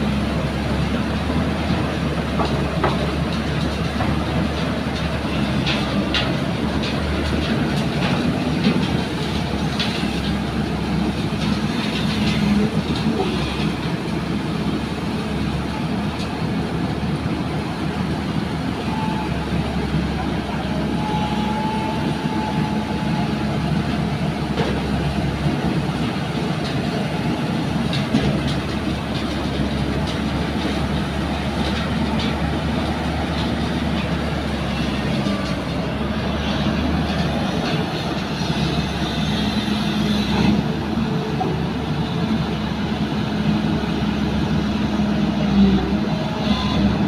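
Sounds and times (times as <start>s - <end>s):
excavator diesel engine: 0.0s - 47.0s.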